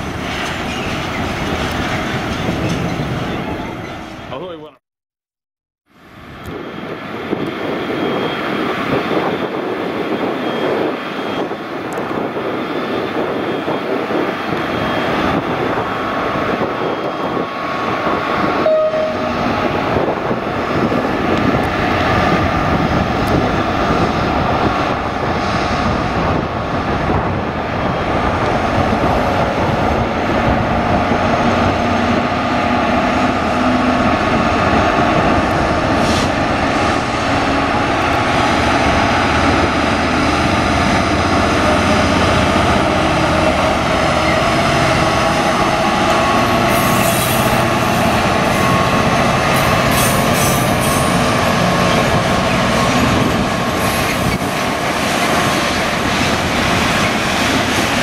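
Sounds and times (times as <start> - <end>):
diesel locomotive under heavy load: 5.9 - 58.0.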